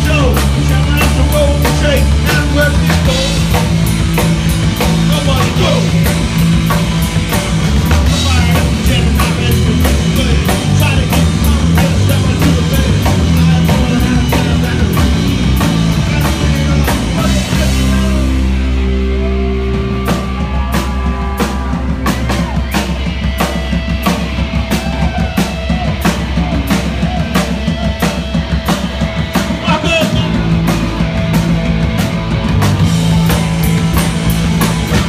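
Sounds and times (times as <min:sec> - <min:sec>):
drum and cymbal hits: 0:00.0 - 0:35.0
electric guitar: 0:00.0 - 0:35.0
rock band playing live: 0:00.0 - 0:35.0.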